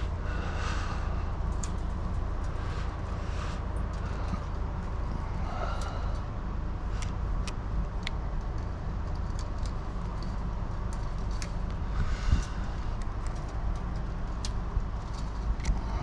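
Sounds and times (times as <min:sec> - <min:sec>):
low rumble: 0:00.0 - 0:16.0
chain-link wire clicking: 0:01.4 - 0:06.3, 0:07.0 - 0:16.0.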